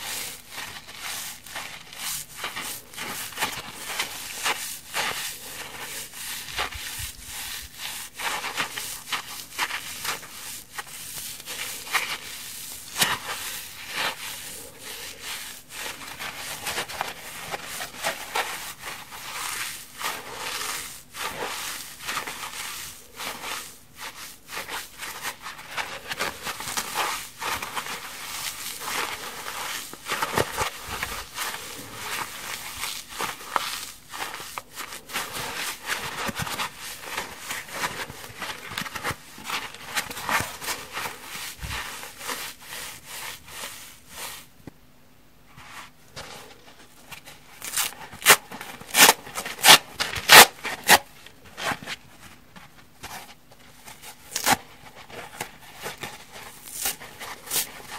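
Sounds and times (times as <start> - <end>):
sponges rubbing and scratching: 0.0 - 44.6, 45.4 - 57.9.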